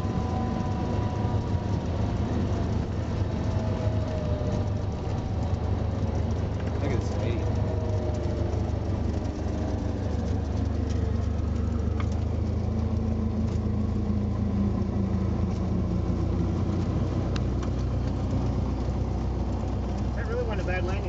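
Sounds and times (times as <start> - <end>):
small plane engine idling: 0.0 - 21.0.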